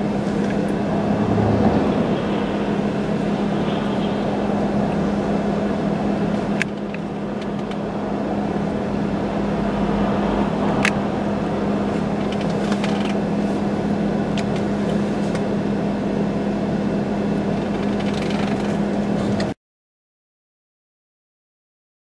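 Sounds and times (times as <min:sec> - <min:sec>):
vehicle engine idling: 0:00.0 - 0:19.5.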